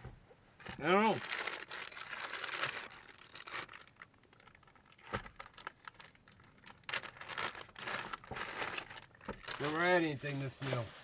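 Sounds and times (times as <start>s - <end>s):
packaging rustling and crinkling: 0.6s - 11.0s.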